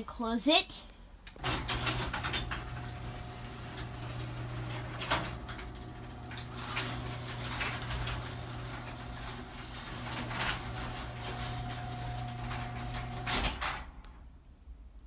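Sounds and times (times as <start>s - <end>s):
garage door opener motor hum: 1.2s - 14.3s
garage door clunks: 1.3s - 14.3s.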